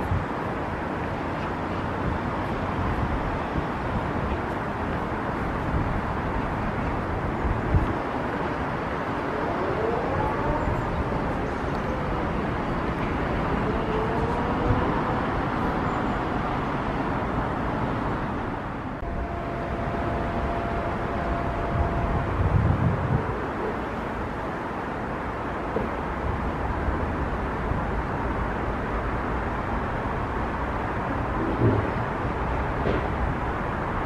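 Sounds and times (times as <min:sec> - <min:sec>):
distant city traffic: 0:00.0 - 0:34.0.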